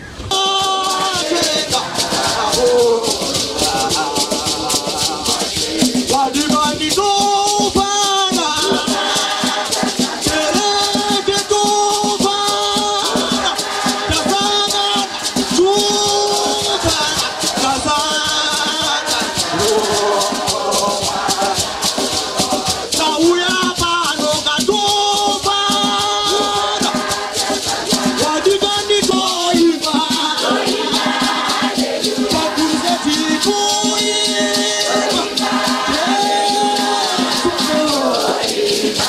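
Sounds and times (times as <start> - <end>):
men's choir singing gospel: 0.0 - 39.0
gourd rattles shaken: 0.1 - 39.0.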